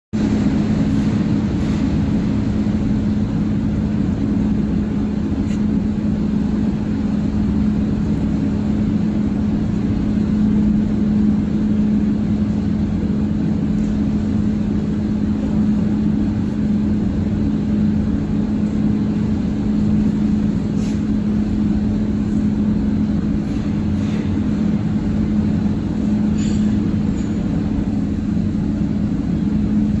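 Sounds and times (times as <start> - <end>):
furnace rumbling and humming: 0.1 - 30.0.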